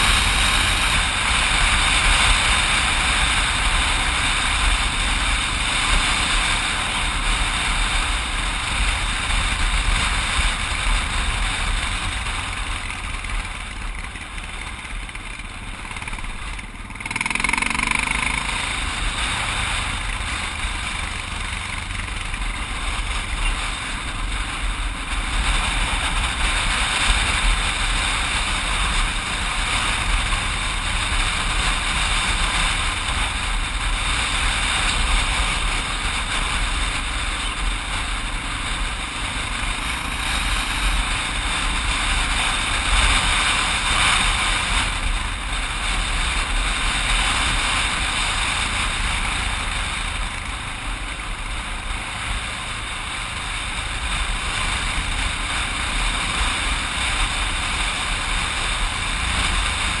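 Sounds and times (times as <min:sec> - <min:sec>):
motorcycle engine running: 0:00.0 - 1:00.0
wind noise on microphone: 0:00.0 - 1:00.0.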